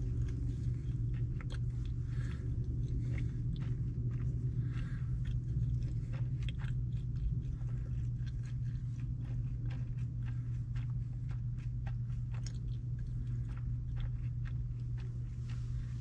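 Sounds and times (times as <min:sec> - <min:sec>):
low hum: 0:00.0 - 0:16.0
man chewing food: 0:00.0 - 0:16.0.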